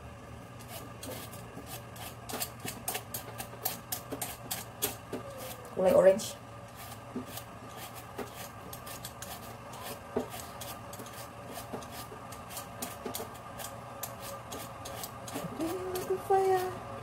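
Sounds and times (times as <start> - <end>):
knife scraping sweet potato skin: 0.6 - 5.7, 6.7 - 16.8.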